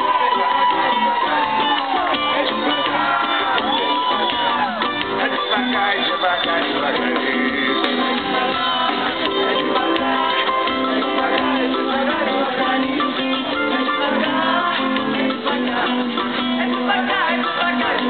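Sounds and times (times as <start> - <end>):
percussion: 0.0 - 18.0
person singing: 0.0 - 18.0
plucked guitars: 0.0 - 18.0
samba band music: 0.0 - 18.0.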